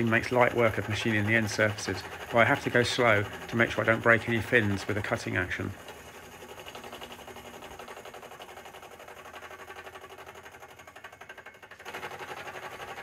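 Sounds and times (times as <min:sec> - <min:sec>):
milling machine cutting metal: 0:00.0 - 0:13.0.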